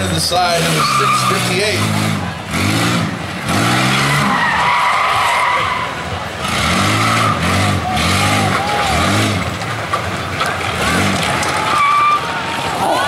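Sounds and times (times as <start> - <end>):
engines revving: 0.0 - 13.0
tyres spinning: 0.0 - 13.0.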